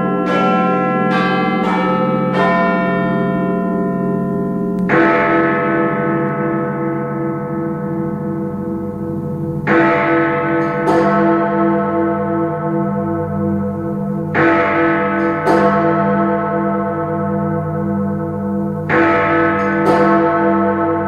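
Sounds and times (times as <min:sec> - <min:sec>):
clock tower bell strokes: 0:00.0 - 0:21.0.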